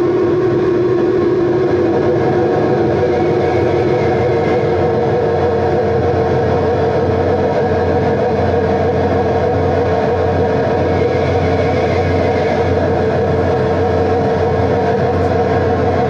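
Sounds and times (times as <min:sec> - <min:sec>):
electronic noise music: 0:00.0 - 0:16.0
steady drone: 0:00.0 - 0:16.0.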